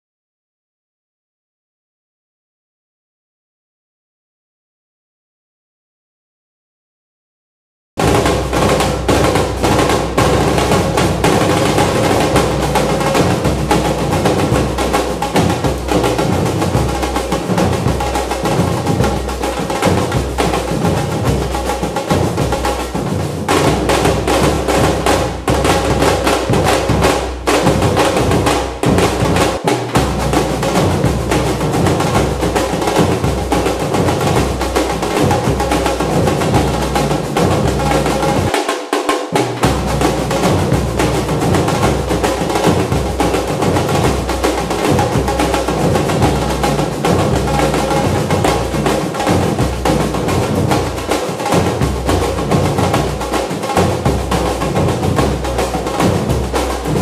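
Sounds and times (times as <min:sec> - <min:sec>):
bass drum beats: 0:08.0 - 0:38.5, 0:39.6 - 0:57.0
snare drum rolls: 0:08.0 - 0:57.0.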